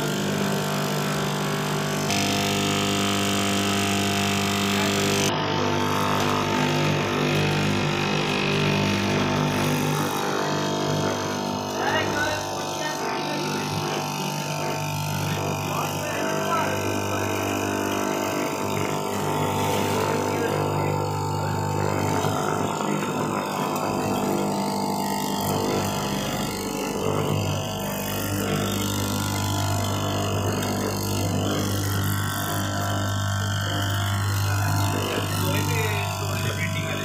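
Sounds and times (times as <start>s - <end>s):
cloth cutting machine humming: 0.0s - 37.0s.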